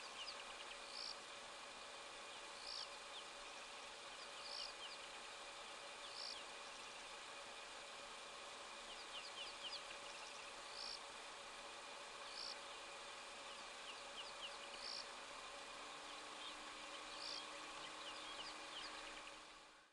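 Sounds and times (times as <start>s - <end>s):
steady insect-like hiss: 0.0s - 19.8s.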